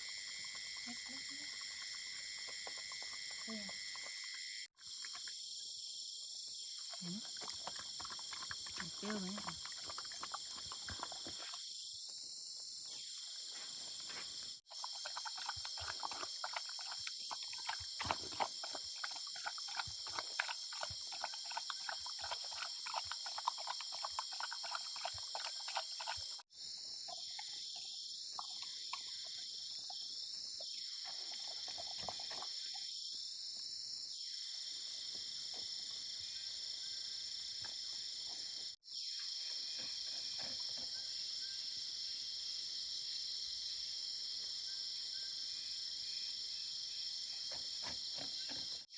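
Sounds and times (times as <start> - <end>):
crickets chirping: 0.0 - 48.9.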